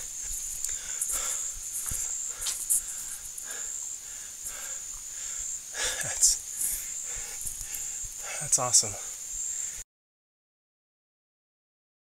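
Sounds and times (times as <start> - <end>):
high-pitched insect chorus: 0.0 - 9.8.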